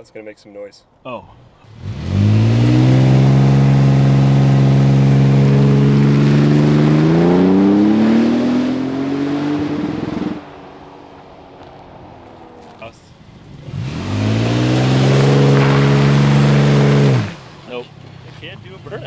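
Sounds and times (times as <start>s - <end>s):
truck engine revving: 1.6s - 19.0s.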